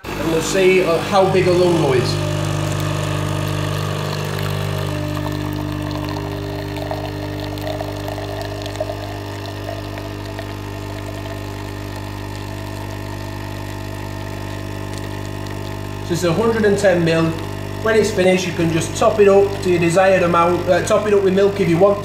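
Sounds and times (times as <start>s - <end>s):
coffee machine pump buzzing: 0.0s - 22.0s
coffee running into a mug: 0.1s - 22.0s.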